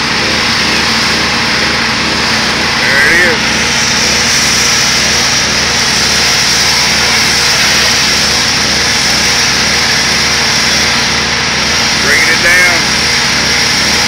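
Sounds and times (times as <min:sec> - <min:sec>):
pressure washer engine hum: 0:00.0 - 0:14.0
water jet hissing on concrete: 0:00.0 - 0:14.0.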